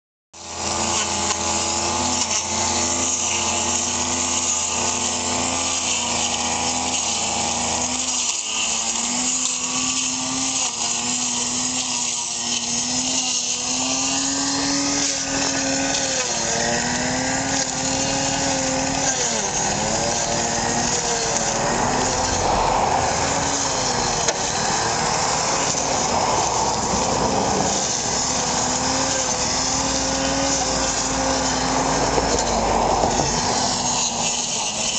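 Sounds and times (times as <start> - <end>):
brush cutter engine running: 0.4 - 34.9.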